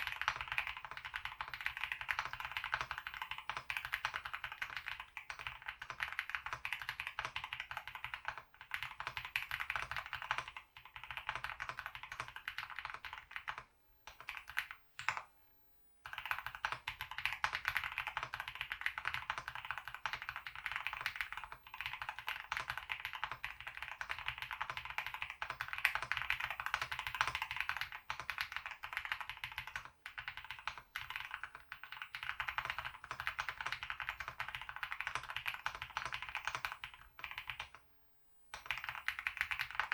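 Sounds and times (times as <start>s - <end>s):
fast mechanical keyboard typing: 0.0s - 15.2s, 16.1s - 37.8s, 38.6s - 39.9s.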